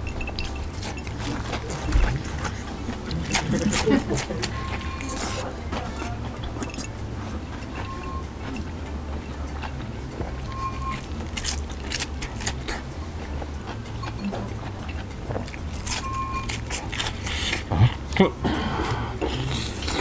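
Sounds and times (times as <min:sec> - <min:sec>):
crunching and chewing fried food: 0:00.0 - 0:20.0
low background music: 0:00.0 - 0:20.0.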